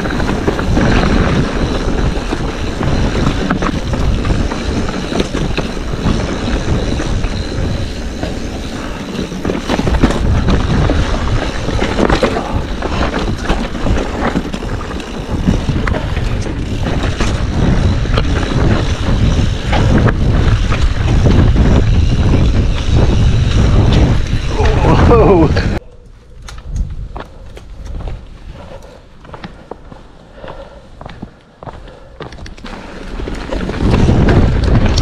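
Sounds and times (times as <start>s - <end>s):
bike clicking and knocking over stones: 0.0s - 25.5s, 32.4s - 35.0s
wind rushing over microphone: 0.0s - 29.0s, 32.3s - 35.0s
bike tyres rolling on gravel: 0.0s - 30.2s, 32.4s - 35.0s.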